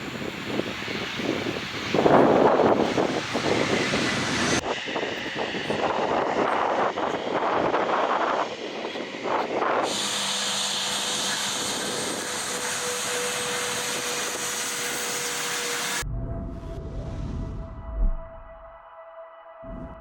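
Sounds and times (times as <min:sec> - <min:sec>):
jet engines running: 0:00.0 - 0:18.5.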